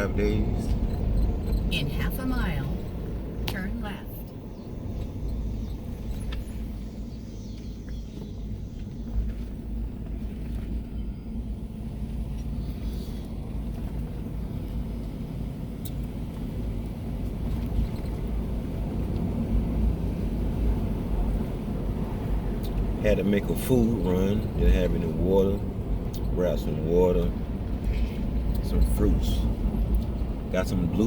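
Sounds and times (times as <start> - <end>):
car rumbling on dirt road: 0.0 - 31.0.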